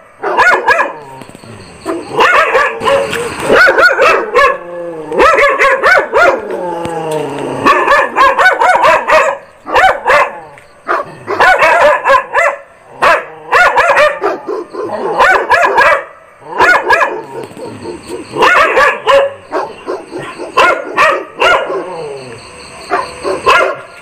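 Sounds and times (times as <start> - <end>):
dog barking loudly: 0.2 - 1.1, 1.8 - 6.5, 7.6 - 22.0, 22.8 - 24.0.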